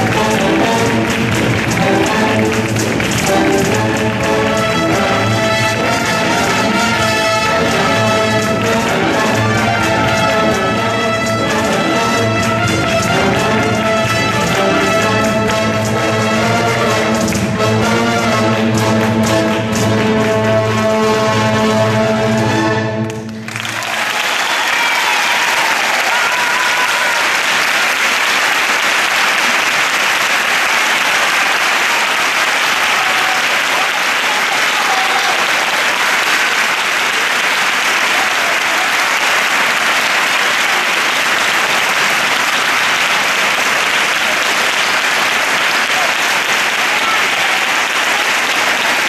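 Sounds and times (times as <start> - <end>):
large audience applauding: 0.0 - 21.9, 23.0 - 49.0
music: 0.0 - 49.0.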